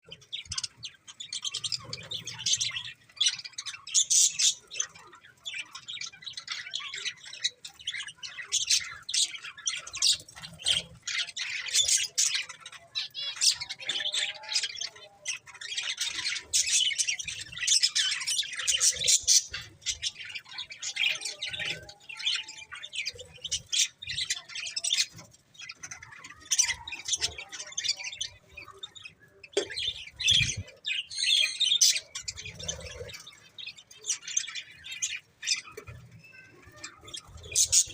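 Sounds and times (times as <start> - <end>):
budgerigars chirping and chattering: 0.0 - 37.9.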